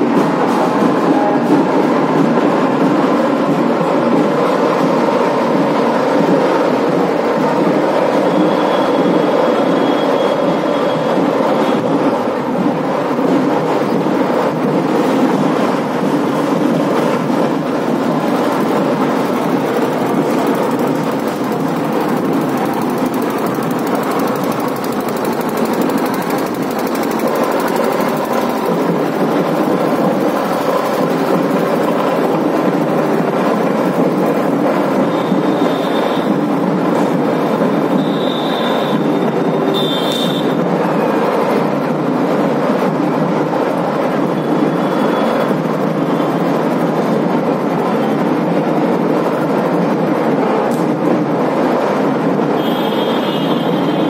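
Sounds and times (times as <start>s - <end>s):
dense crowd din: 0.0s - 54.0s.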